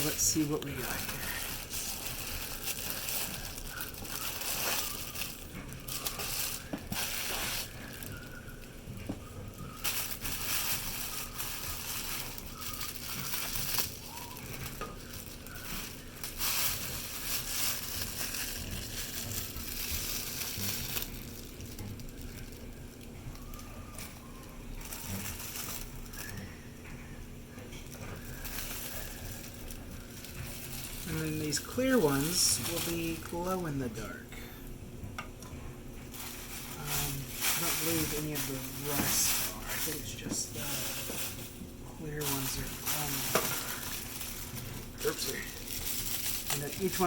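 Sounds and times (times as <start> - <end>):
packaging crinkling and rustling: 0.0 - 34.2, 35.3 - 47.0.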